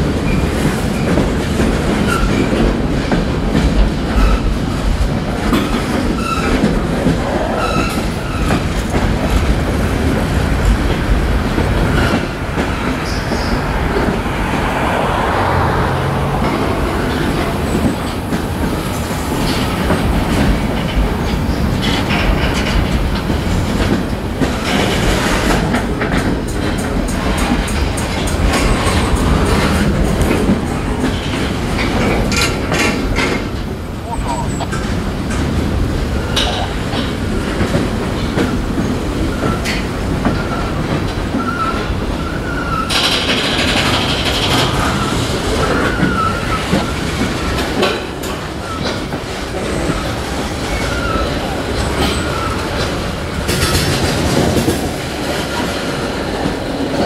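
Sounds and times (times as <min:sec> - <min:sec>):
freight train wheels rumbling: 0:00.0 - 0:57.0
wheels clicking over rail joints: 0:00.0 - 0:57.0.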